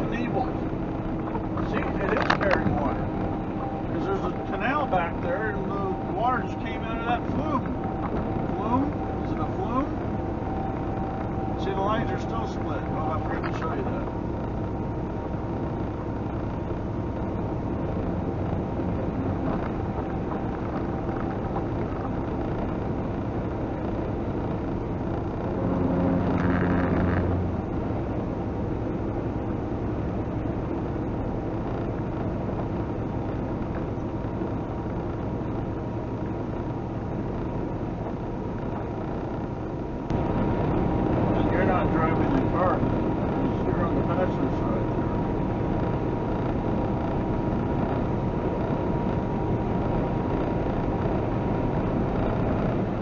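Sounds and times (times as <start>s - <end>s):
humming tone: 0.0s - 53.0s
truck engine and road noise: 0.0s - 53.0s.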